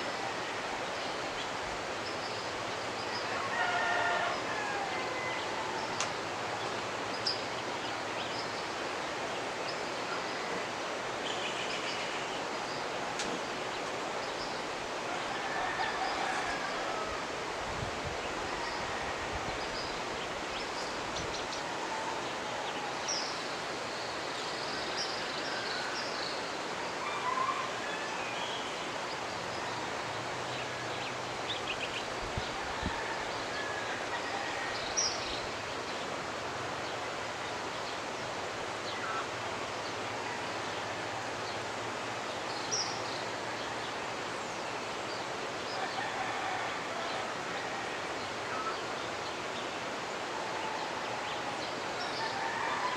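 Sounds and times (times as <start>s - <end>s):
river running: 0.0s - 52.9s.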